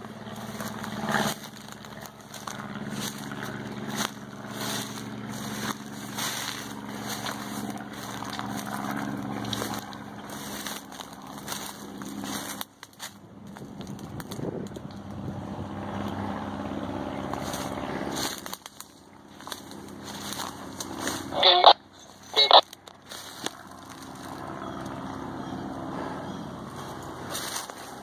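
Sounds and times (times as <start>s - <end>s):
brush crackling and snapping: 0.0s - 15.2s, 17.3s - 21.4s, 22.2s - 25.0s, 27.3s - 28.0s
low engine hum: 0.0s - 28.0s.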